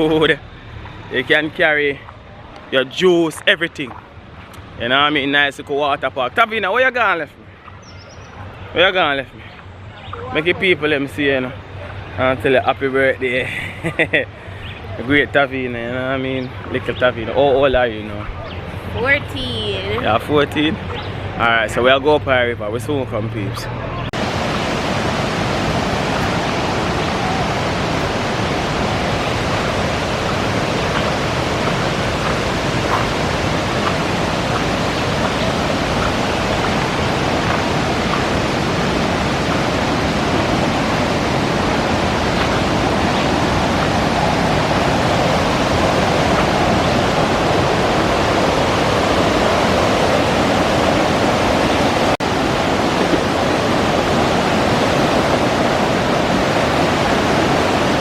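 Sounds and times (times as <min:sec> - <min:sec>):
waterfall roaring: 0:00.0 - 0:22.2, 0:22.9 - 0:58.0.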